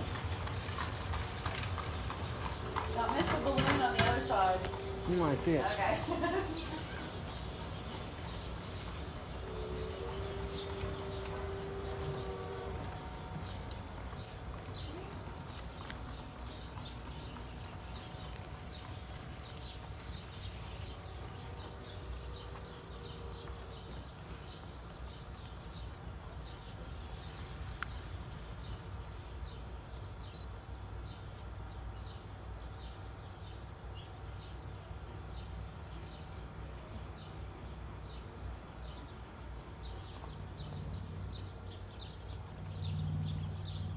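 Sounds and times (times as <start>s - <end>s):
crickets chirping: 0.0s - 43.9s.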